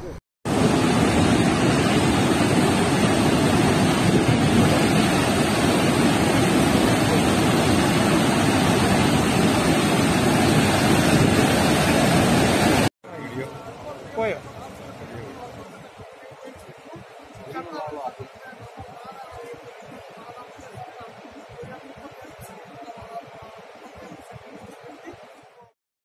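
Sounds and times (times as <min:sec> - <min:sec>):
floodwater rushing down dam chute: 0:00.5 - 0:25.5.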